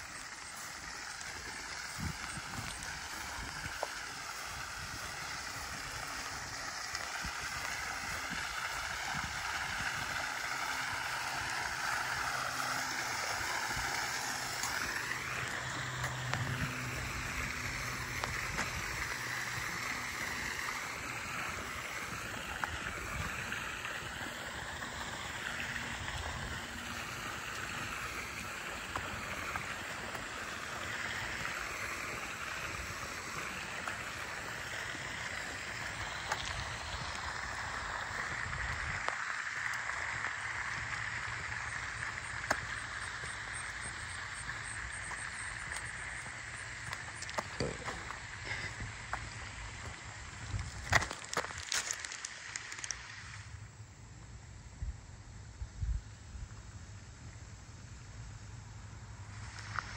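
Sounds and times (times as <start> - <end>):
fountain water splashing into pool: 0.0 - 54.4, 56.6 - 59.9.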